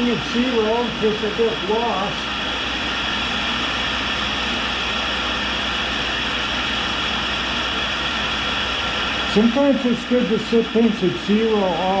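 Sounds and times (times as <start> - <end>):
grinder wheel humming and hissing: 0.0 - 12.0.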